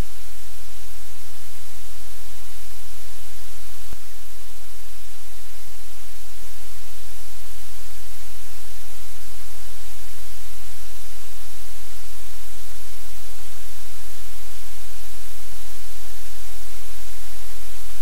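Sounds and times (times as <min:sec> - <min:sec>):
loud steady hiss: 0:00.0 - 0:18.0.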